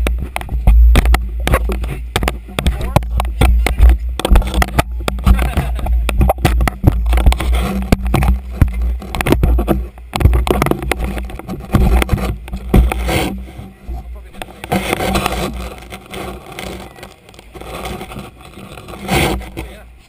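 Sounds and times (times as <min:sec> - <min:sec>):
camera housing knocks and scrapes: 0:00.0 - 0:19.8
boat engine rumble: 0:00.0 - 0:20.0.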